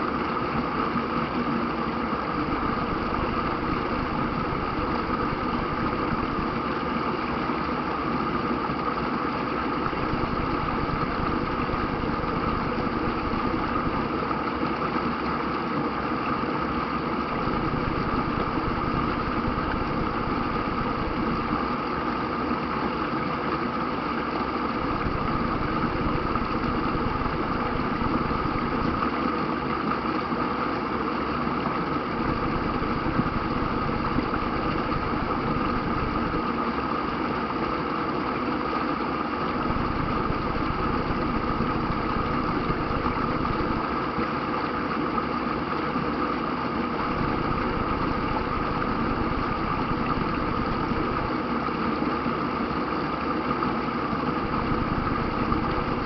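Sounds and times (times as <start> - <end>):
water rushing over rapids: 0.0 - 56.0.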